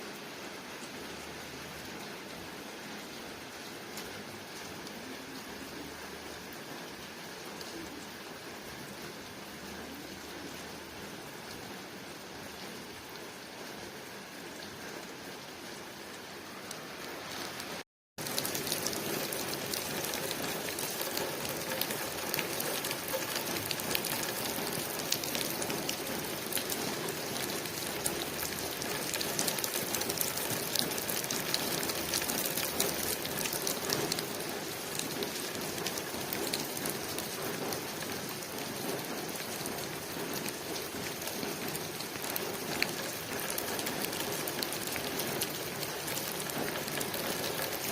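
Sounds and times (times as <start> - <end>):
rain on window glass: 0.1 - 47.9.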